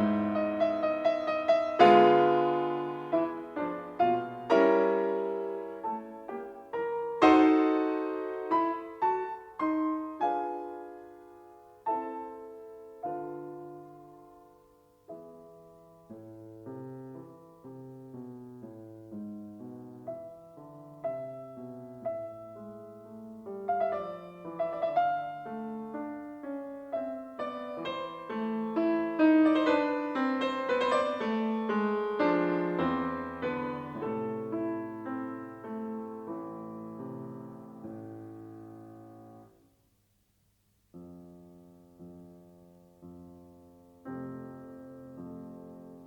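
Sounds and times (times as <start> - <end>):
piano music: 0.0 - 39.6.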